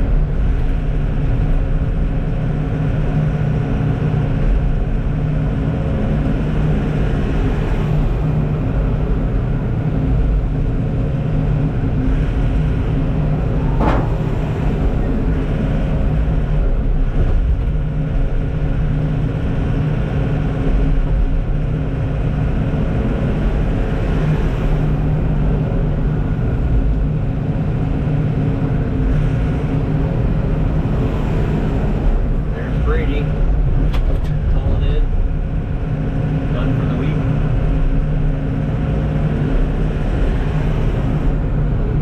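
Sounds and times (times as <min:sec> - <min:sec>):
truck diesel engine from cab: 0:00.0 - 0:42.0.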